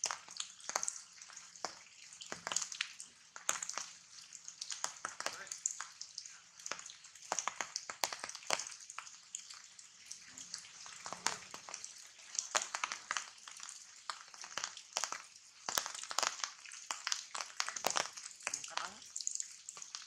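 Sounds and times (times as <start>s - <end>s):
raindrops tapping on leaves: 0.0s - 20.0s
steady rain hiss: 0.0s - 20.0s.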